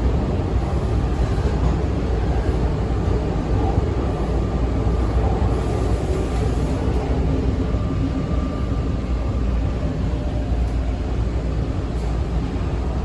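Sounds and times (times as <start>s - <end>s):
subway wheels rumbling: 0.0s - 13.0s.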